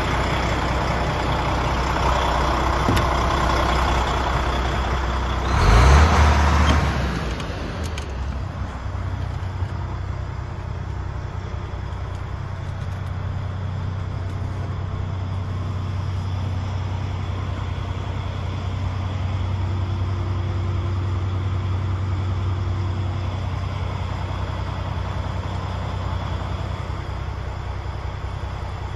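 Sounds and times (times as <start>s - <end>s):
diesel engine idling: 0.0s - 28.9s.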